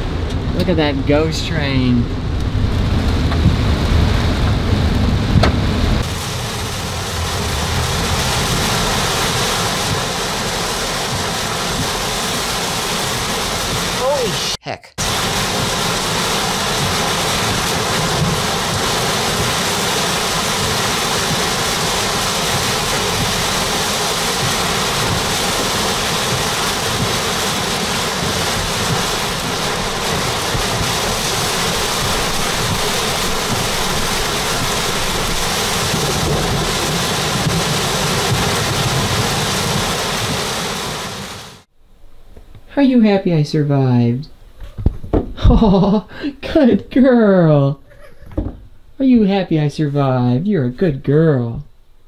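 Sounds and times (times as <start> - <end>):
low rumble: 0.0 - 14.4, 15.0 - 42.6
rain and hail on car roof: 0.0 - 41.7, 44.7 - 47.2.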